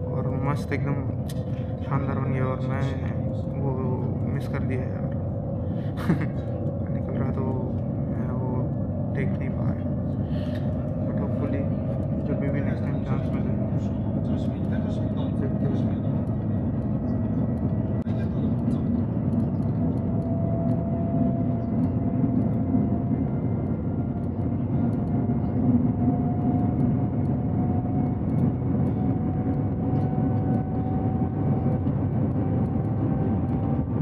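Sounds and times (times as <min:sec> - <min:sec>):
train travel noise: 0:00.0 - 0:34.0.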